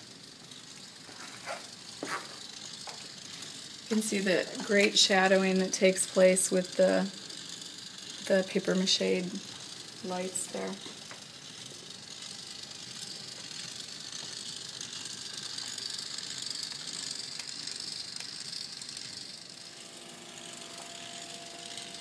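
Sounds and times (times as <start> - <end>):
room noise hiss: 0.0 - 22.0.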